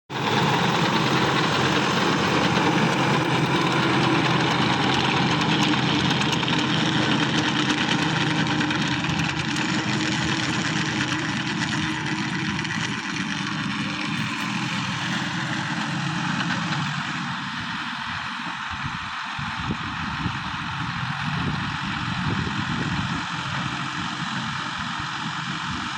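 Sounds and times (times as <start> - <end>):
tractor diesel engine running: 0.1 - 25.9.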